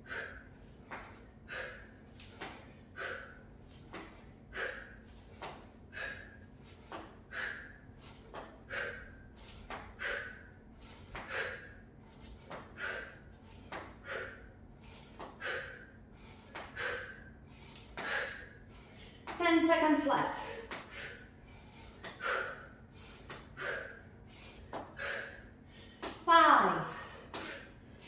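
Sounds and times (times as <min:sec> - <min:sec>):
woman breathing hard: 0:00.0 - 0:28.0.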